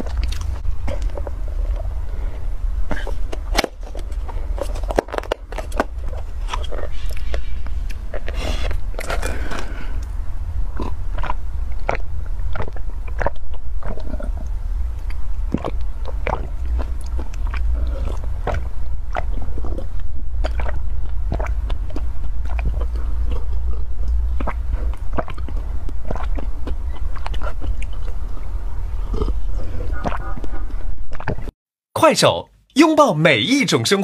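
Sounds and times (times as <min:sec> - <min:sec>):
low hum: 0:00.0 - 0:31.5
person gulping drink: 0:00.0 - 0:31.5.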